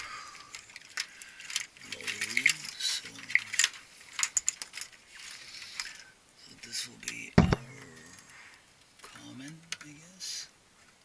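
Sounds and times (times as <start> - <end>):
light metallic rattles of wires: 0.0 - 10.0.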